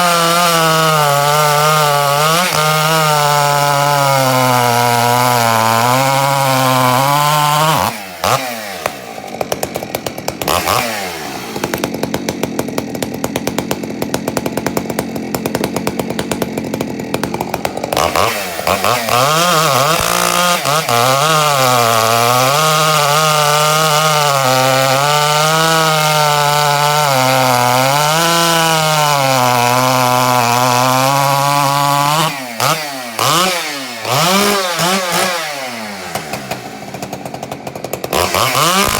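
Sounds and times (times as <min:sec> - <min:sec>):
chainsaw revving and cutting: 0:00.0 - 0:38.9.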